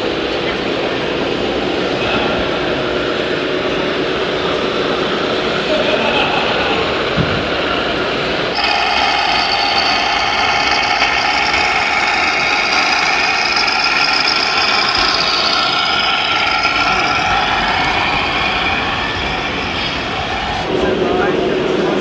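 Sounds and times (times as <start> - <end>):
model vehicle motor whine: 2.1 - 20.7.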